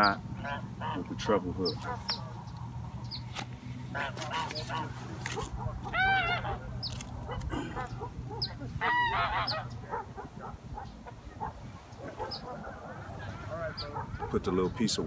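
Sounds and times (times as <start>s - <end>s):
geese honking: 0.0s - 2.8s, 3.8s - 14.8s.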